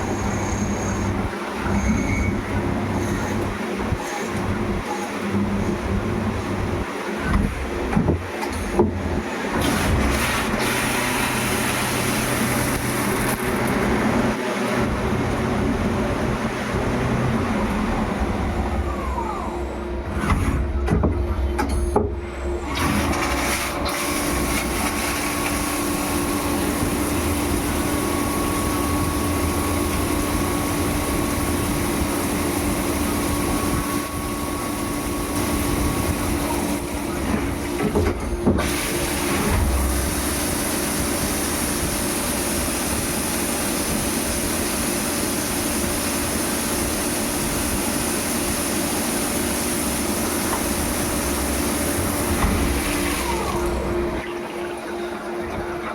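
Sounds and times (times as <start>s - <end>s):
machine motor humming: 0.0s - 55.9s.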